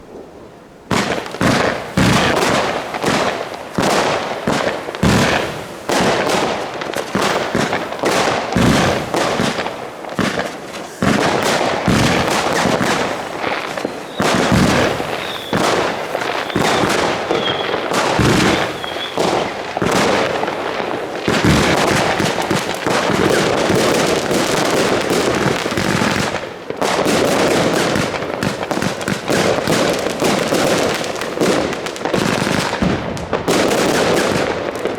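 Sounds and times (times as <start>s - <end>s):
firework whistles: 0.0s - 32.7s
fireworks bangs: 0.0s - 34.9s
fireworks crackling: 0.0s - 34.9s.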